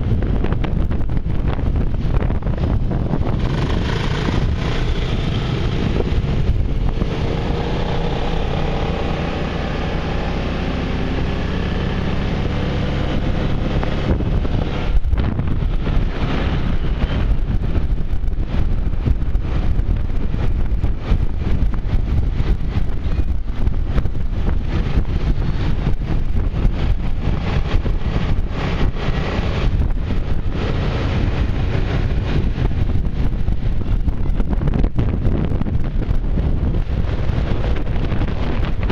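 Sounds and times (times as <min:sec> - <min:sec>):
scooter engine running: 0:00.0 - 0:38.9
wind buffeting microphone: 0:00.0 - 0:38.9.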